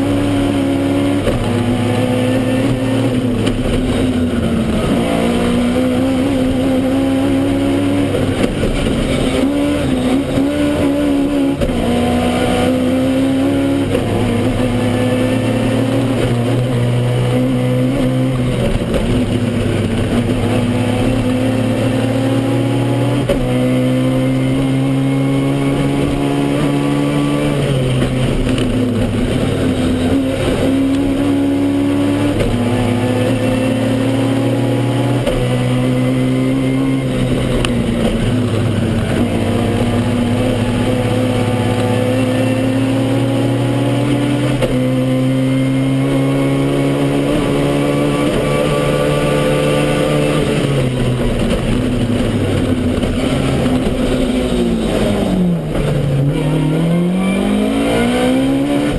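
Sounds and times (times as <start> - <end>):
car engine revving: 0.0 - 58.9.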